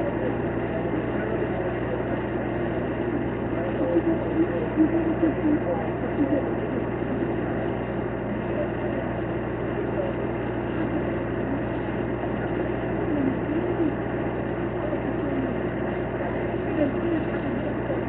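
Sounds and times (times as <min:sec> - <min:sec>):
engines idling hum: 0:00.0 - 0:18.0
faint distant voices: 0:00.0 - 0:18.0.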